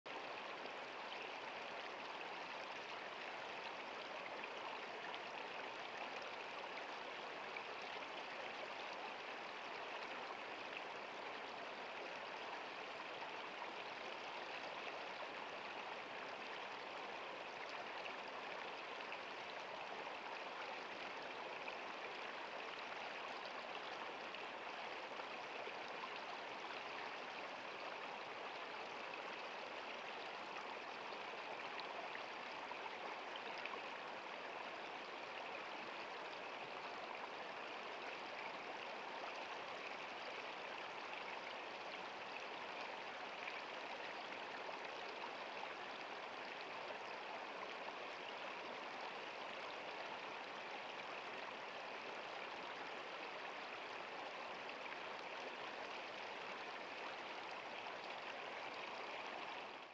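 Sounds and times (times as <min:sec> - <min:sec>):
stream flowing over stones: 0:00.1 - 0:59.9.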